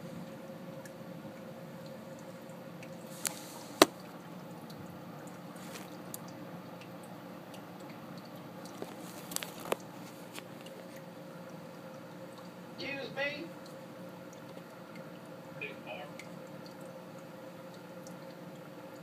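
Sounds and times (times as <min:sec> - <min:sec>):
rain through a window: 0:00.0 - 0:19.0.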